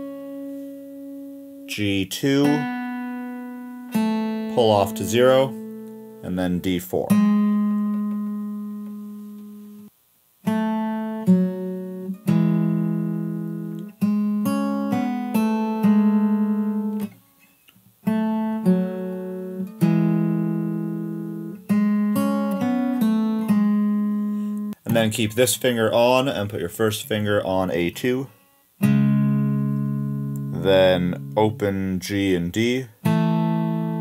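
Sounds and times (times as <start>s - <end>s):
fingerpicked acoustic guitar: 0.0s - 26.4s, 27.0s - 34.0s.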